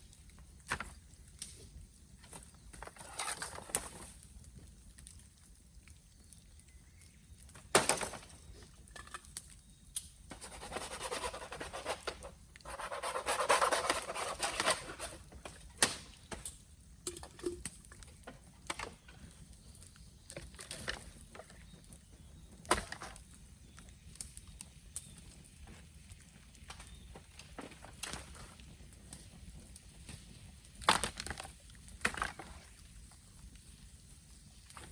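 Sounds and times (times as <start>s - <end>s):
bamboo fire crackling and popping: 0.0s - 34.9s.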